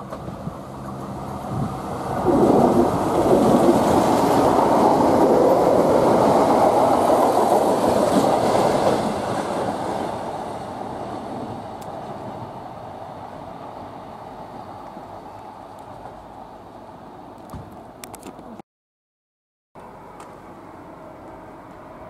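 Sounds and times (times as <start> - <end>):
train passing at speed: 0.0 - 17.3, 20.4 - 22.0.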